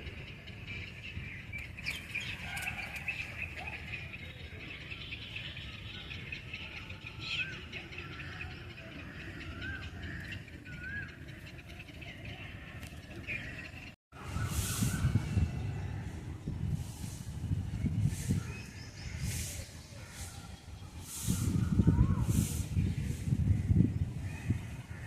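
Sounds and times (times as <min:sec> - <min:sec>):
birds chirping and calling: 0:00.0 - 0:25.0.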